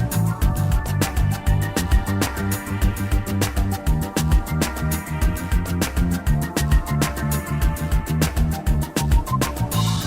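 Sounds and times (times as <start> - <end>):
electronic music with driving beat: 0.0 - 10.0.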